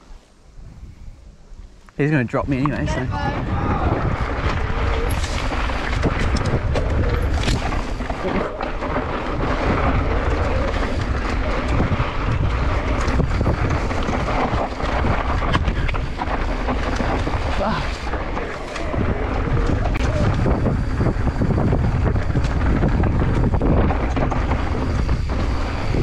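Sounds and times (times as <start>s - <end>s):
wind buffeting microphone: 0.5s - 26.0s
tyres on loose dirt: 1.9s - 26.0s
bike clicks and knocks: 4.4s - 26.0s.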